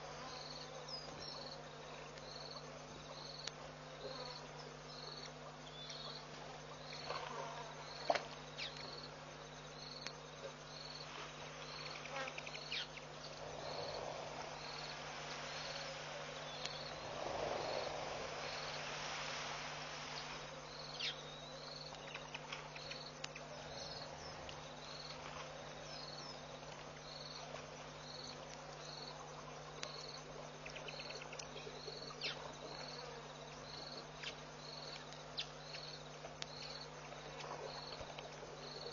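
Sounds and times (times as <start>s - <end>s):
insect chirping: 0.0s - 38.9s
steady low hum: 0.0s - 38.9s.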